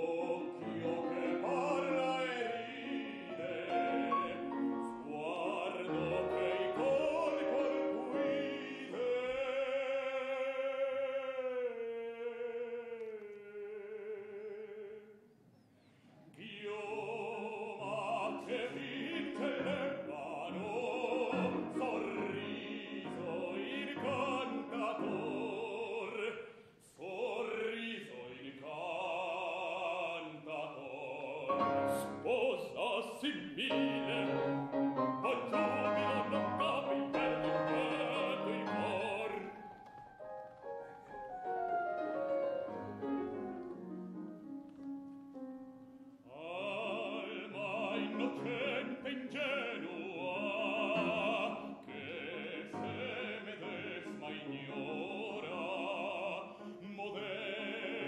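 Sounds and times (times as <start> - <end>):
piano: 0.0 - 11.1, 16.4 - 58.0
man singing opera: 0.0 - 15.2, 16.3 - 39.9, 46.2 - 58.0.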